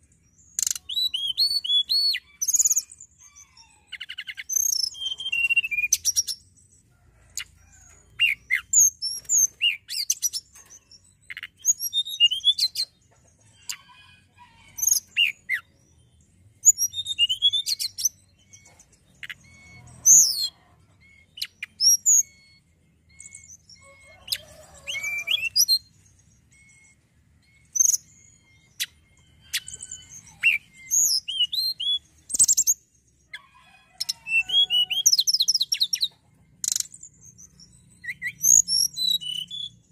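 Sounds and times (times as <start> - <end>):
bird singing whistled notes: 0.4 - 6.8, 8.2 - 12.9, 14.8 - 39.9.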